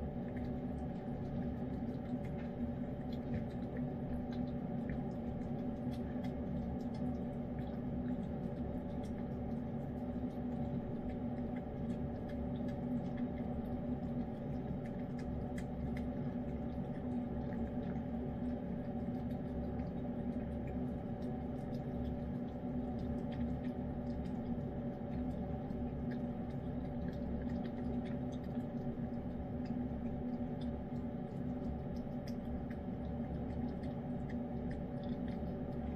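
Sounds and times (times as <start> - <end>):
cat licking and chewing food: 0.0 - 35.9.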